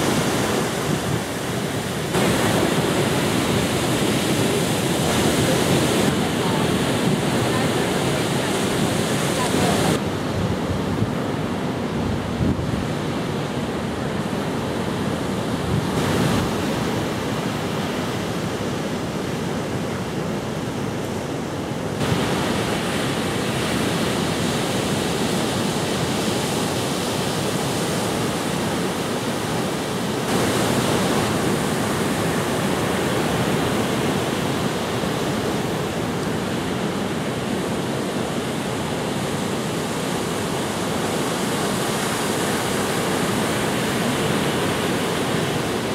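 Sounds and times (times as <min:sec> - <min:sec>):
waves breaking on shore: 0:00.0 - 0:45.9.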